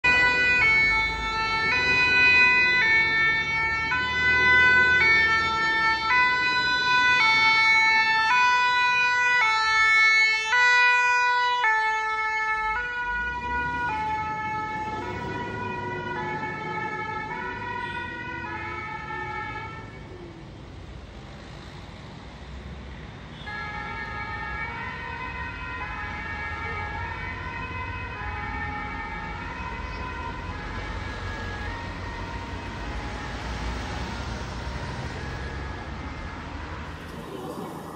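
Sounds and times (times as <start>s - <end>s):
fire engine two-tone siren: 0.0s - 20.4s, 23.3s - 37.9s.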